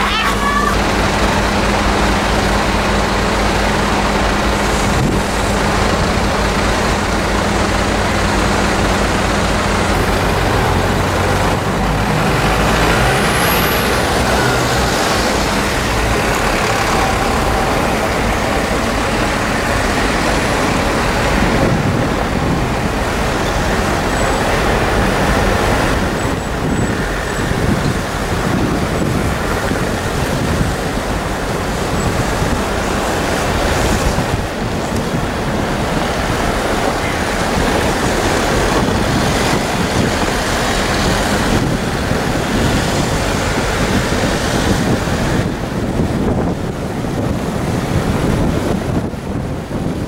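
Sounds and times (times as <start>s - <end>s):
diesel engine low hum: 0.0s - 50.0s
vehicles driving past: 0.0s - 50.0s.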